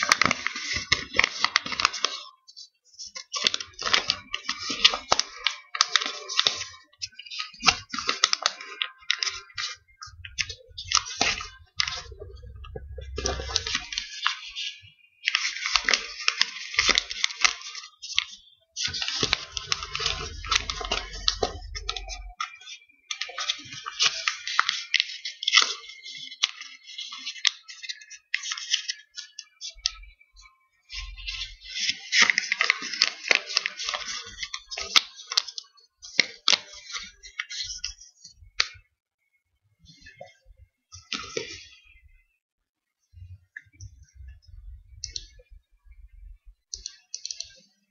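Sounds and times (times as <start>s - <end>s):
paper crinkling and rustling: 0.0s - 30.0s, 30.9s - 38.8s, 41.0s - 41.8s.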